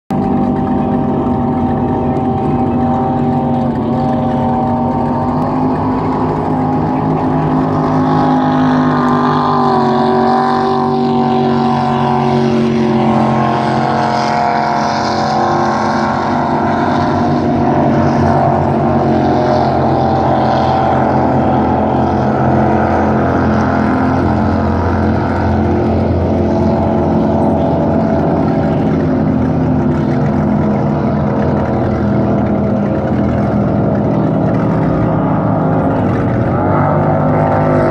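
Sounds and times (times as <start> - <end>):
motorboat engines running: 0.1 - 37.9.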